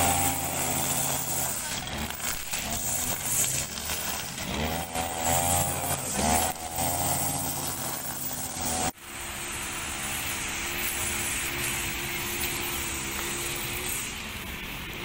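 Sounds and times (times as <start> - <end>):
grass trimmer engine running: 0.0 - 15.0.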